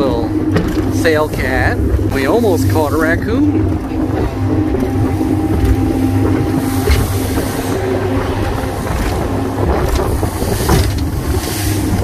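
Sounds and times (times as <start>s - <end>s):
hull knocking against waves: 0.0s - 12.0s
outboard engine running: 0.0s - 12.0s
water rushing along a hull: 0.0s - 12.0s
wind on the microphone: 0.0s - 12.0s.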